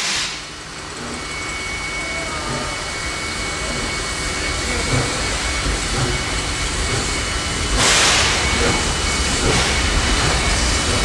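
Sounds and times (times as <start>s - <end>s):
steam locomotive simmering: 0.0s - 11.0s.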